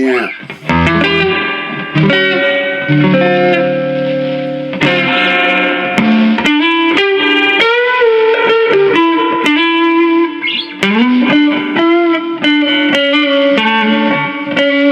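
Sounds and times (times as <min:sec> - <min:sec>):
clean electric guitar melody: 0:00.2 - 0:14.9.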